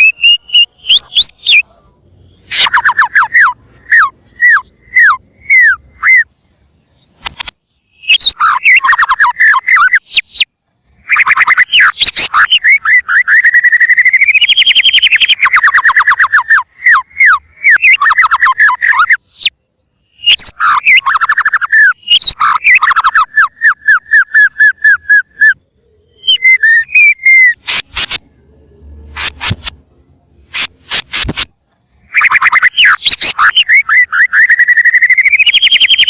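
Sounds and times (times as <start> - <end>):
bird singing whistled notes: 0.0 - 36.0.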